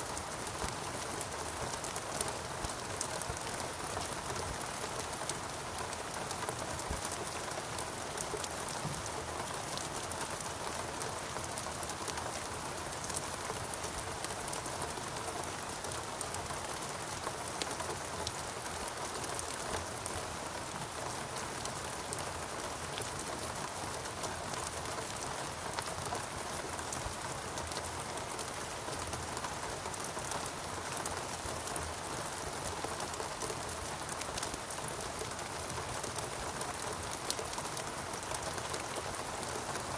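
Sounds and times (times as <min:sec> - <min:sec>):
raindrops pattering on leaves: 0:00.0 - 0:39.9.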